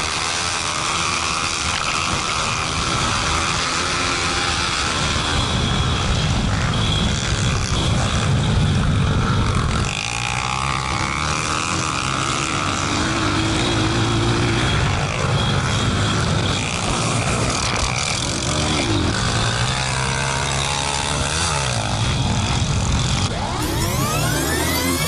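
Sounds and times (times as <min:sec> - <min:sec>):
motorbike engine revving: 0:00.0 - 0:25.0.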